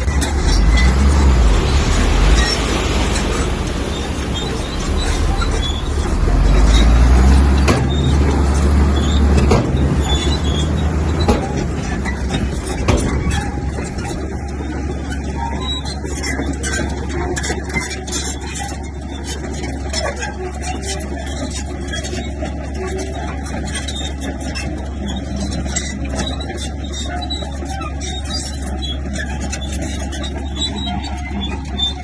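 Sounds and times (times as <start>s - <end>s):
bulldozer diesel engine rumbling: 0.0s - 32.0s
metallic knocks and clanks: 0.0s - 32.0s.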